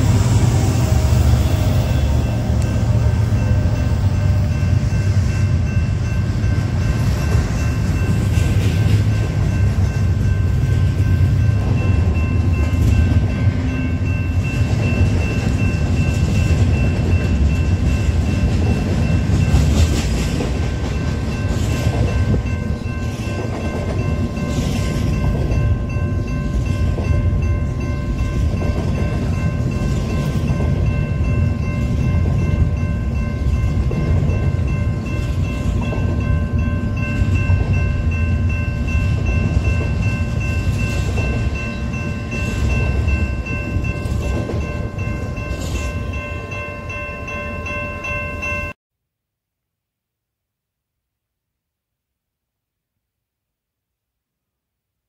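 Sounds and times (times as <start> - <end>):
crossing warning bell ringing: 0.0 - 48.8
freight train rumbling past: 0.0 - 48.8.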